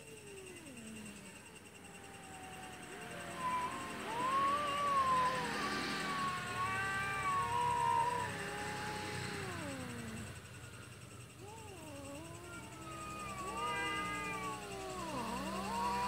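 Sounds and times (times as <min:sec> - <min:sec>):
cats yowling: 0:00.0 - 0:16.0.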